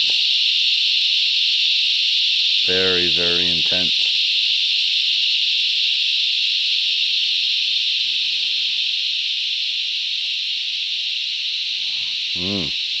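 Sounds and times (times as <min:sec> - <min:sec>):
cicadas chorus drone: 0:00.0 - 0:13.0.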